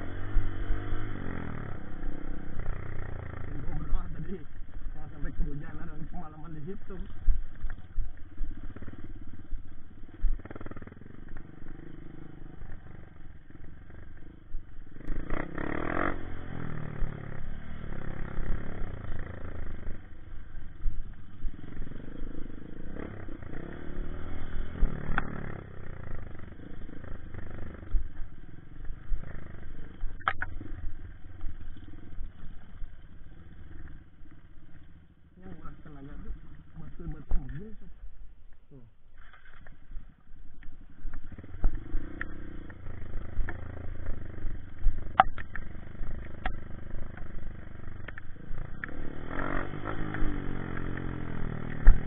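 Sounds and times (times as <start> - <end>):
dirt bike engine revving: 0.0 - 7.5, 8.2 - 37.3, 40.8 - 52.0.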